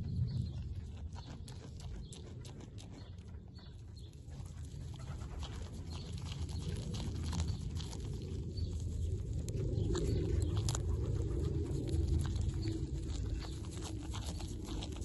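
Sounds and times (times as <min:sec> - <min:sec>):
steady low rumble: 0:00.0 - 0:15.0
goat chewing crisp leaf: 0:00.1 - 0:15.0.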